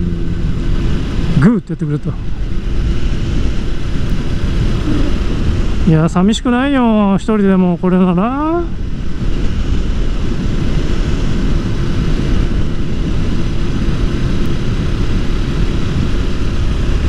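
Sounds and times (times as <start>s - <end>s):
motorcycle engine running: 0.0s - 1.6s, 2.2s - 6.5s, 8.1s - 17.0s
road noise: 0.0s - 17.0s
rushing wind: 0.0s - 17.0s.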